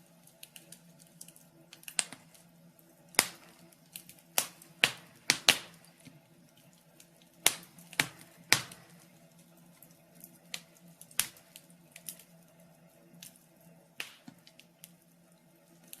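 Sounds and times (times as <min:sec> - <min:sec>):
faint steady hum: 0:00.0 - 0:16.0
wood fire crackling: 0:00.0 - 0:16.0.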